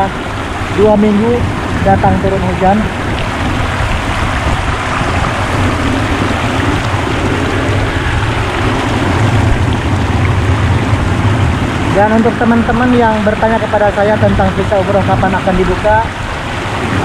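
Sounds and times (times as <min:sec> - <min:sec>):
heavy rain: 0:00.0 - 0:17.0
tyres on wet road: 0:00.0 - 0:17.0.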